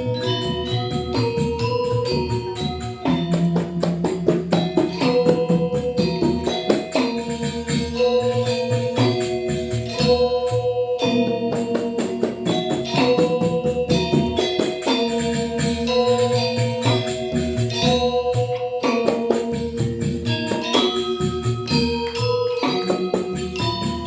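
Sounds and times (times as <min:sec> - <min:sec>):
bronze metallophones ringing: 0:00.0 - 0:24.0
gamelan playing: 0:00.0 - 0:24.0.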